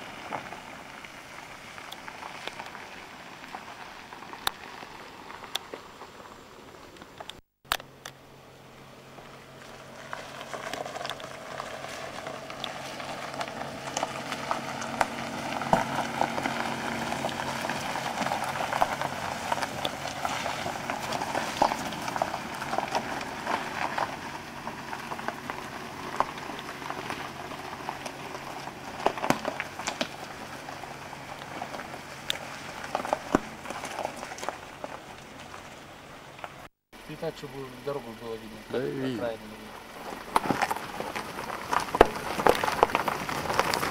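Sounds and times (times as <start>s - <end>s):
car engine hum: 0.0s - 43.9s
tyres crunching on gravel: 0.0s - 43.9s.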